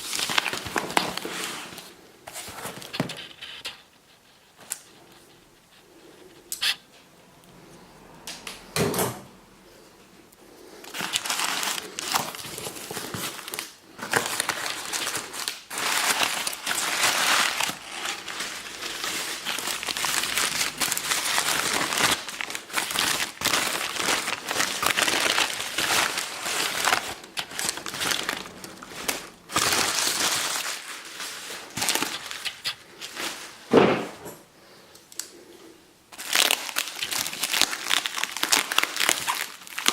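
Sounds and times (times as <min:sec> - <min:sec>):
packing material crinkling: 0:00.0 - 0:07.0, 0:10.6 - 0:33.7, 0:36.1 - 0:39.9.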